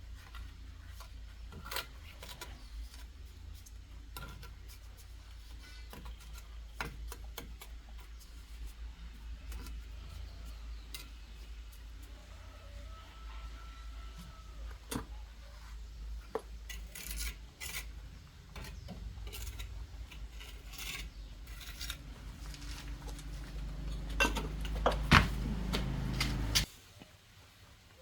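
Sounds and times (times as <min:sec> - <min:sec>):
scraping and rubbing: 0:00.1 - 0:26.7.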